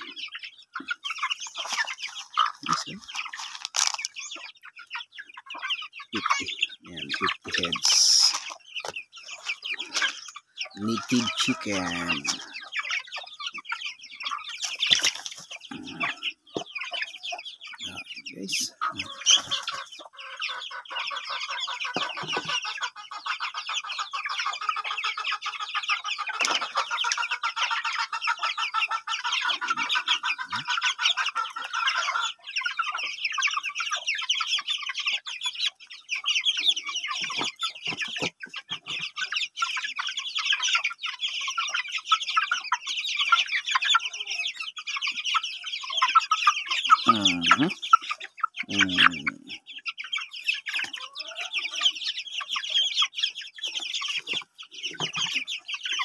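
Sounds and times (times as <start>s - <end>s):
chicks peeping and cheeping: 0.0s - 56.0s.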